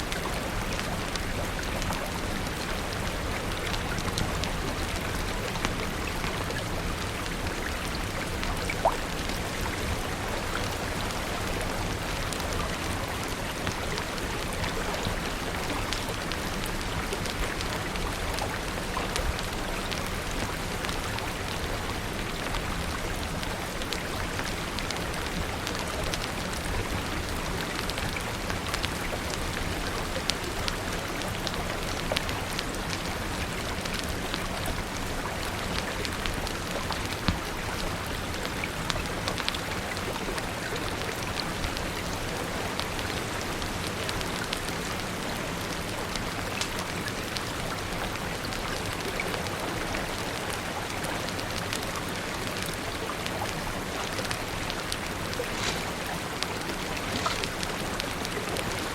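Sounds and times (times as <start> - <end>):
steady rain falling: 0.0 - 58.9
wood fire crackling: 0.1 - 58.9.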